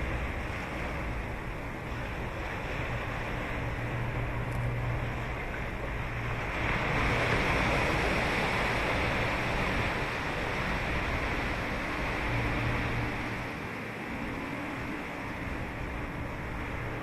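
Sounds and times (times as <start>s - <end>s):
waves breaking on a beach: 0.0s - 17.0s.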